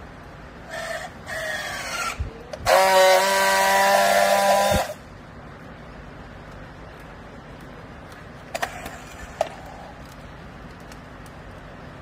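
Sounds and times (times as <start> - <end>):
loud steady buzz: 0.0 - 10.8.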